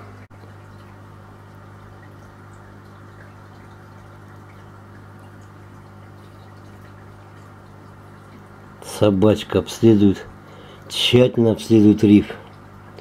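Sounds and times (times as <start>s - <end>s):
pump electric hum: 0.0s - 13.0s
water trickling and bubbling: 0.0s - 13.0s.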